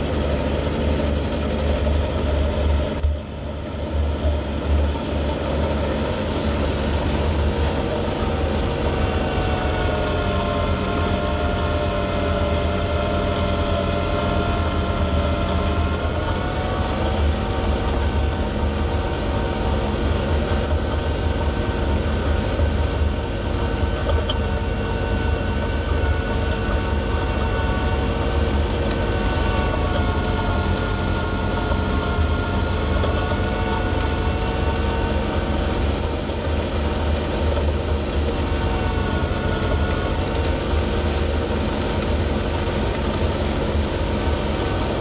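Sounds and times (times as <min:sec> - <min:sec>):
diesel tractor engine running: 0:00.0 - 0:45.0
snowblower throwing snow: 0:00.1 - 0:45.0.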